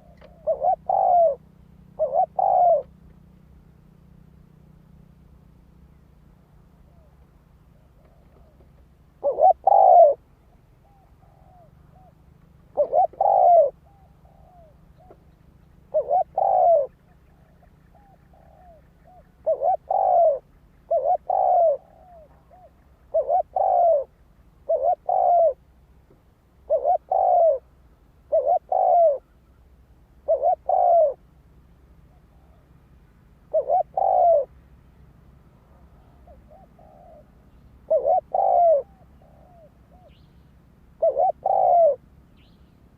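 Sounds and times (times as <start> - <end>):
dove cooing: 0.0 - 4.0, 6.0 - 25.7, 26.6 - 29.6, 30.2 - 31.3, 32.0 - 32.8, 33.4 - 34.6, 35.6 - 42.2.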